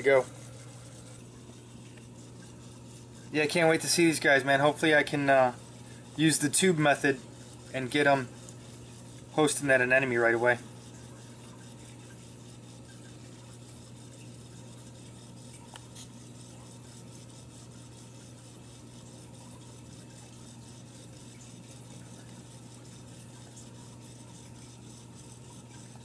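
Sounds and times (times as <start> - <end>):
aquarium pump hum: 0.0 - 26.0.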